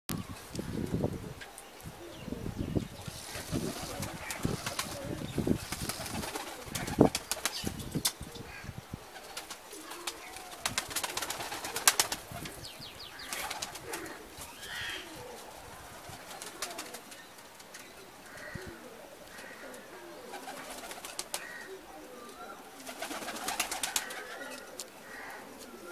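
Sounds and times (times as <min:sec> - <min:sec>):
soft bird calls: 0:00.1 - 0:25.9.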